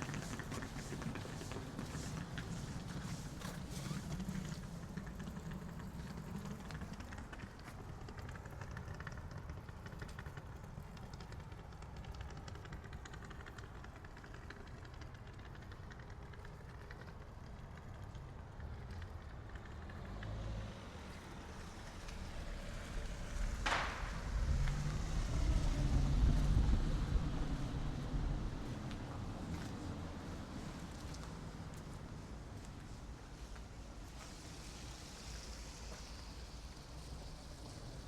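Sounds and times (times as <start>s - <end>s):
vehicle engine humming: 0.0s - 37.8s.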